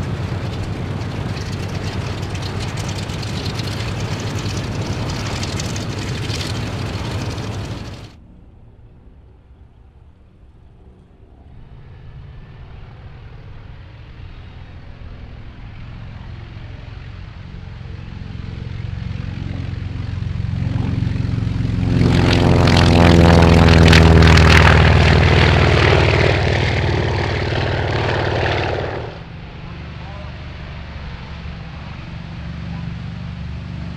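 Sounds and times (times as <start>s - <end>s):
propeller plane engine taking off: 0.0s - 8.2s, 11.2s - 33.9s.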